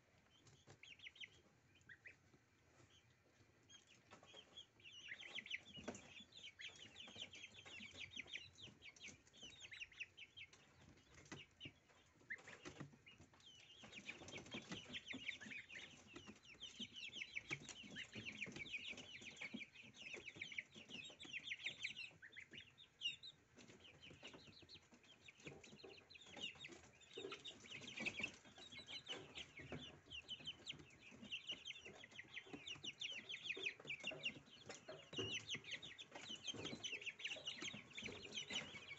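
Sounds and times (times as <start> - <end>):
goslings peeping: 0.0 - 38.9.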